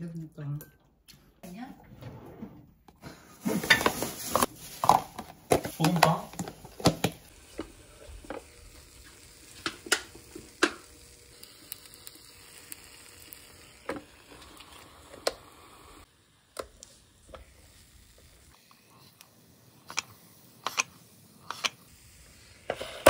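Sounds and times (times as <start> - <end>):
dough sizzling in waffle maker: 3.4 - 23.0.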